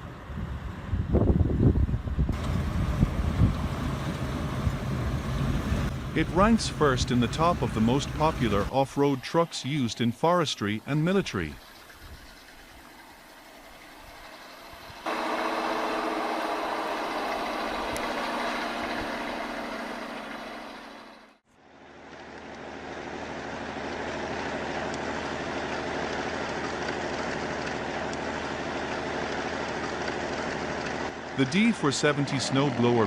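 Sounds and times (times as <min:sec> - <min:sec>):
heavy truck engine running: 0:00.0 - 0:33.0.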